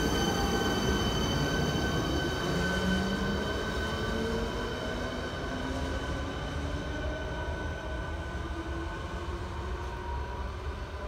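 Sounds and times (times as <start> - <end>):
rumble of wheels on rail: 0.0 - 11.0.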